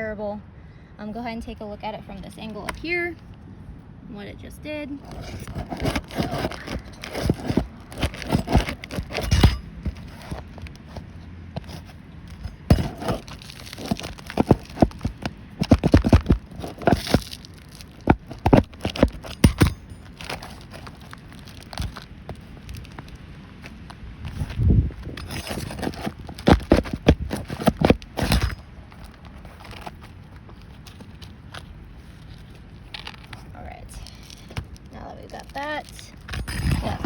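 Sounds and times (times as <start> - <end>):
shingles cracking and scraping: 5.0 - 37.0.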